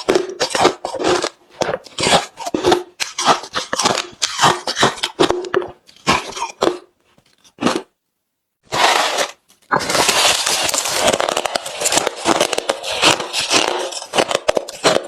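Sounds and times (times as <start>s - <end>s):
chewing crushed ice: 0.0s - 8.0s, 8.7s - 15.0s.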